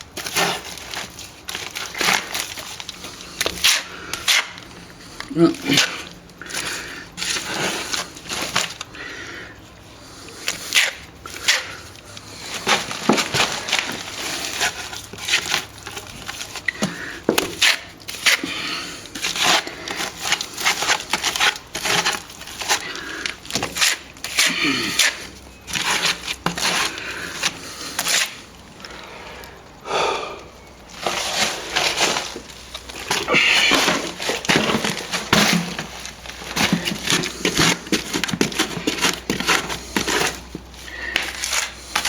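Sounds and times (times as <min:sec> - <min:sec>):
hand tool scraping plaster: 0:00.1 - 0:28.5, 0:31.0 - 0:42.0.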